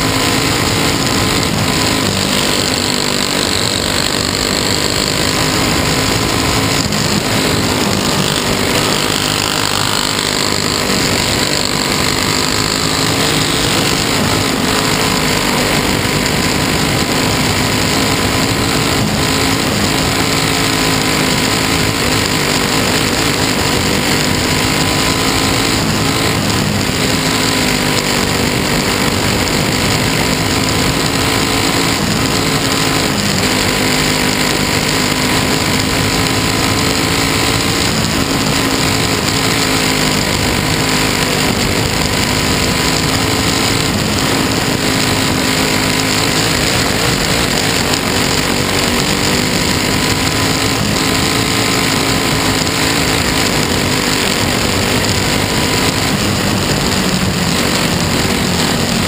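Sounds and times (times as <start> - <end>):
race car engine running hard: 0.0 - 59.0
steady rushing noise: 0.0 - 59.0.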